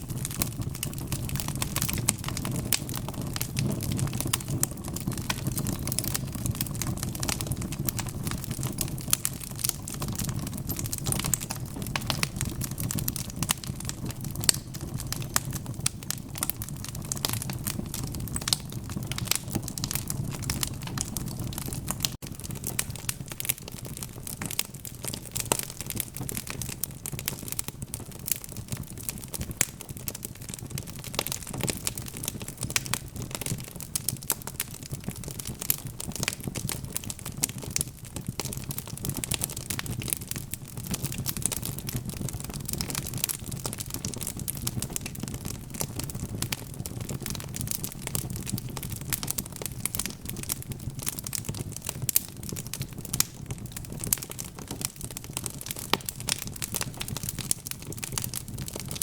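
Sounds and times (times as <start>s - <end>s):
low rumble of burning: 0.0s - 59.0s
wood fire crackling and popping: 0.0s - 59.0s.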